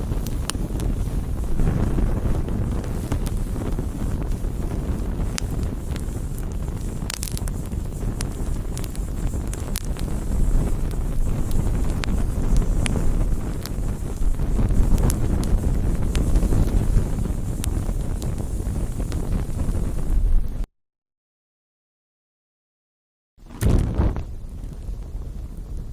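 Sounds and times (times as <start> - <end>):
bonfire rumbling: 0.0 - 20.7, 23.4 - 25.9
fire crackling and popping: 0.0 - 20.7, 23.4 - 25.9.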